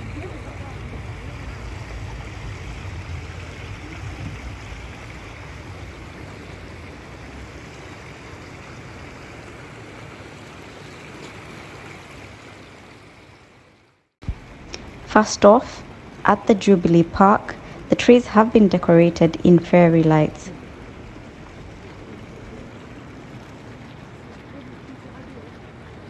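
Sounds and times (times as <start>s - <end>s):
fountain splashing into a pond: 0.0s - 26.0s.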